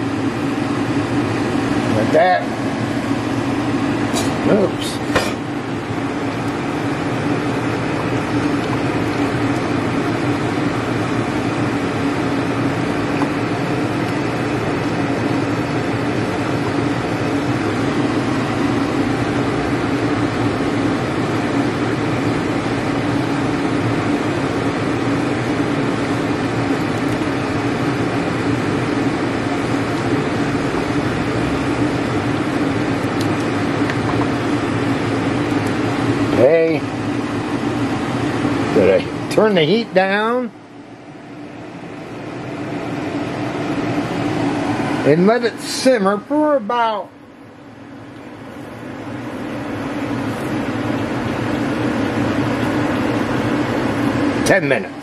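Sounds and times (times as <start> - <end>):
fan humming: 0.0 - 55.0.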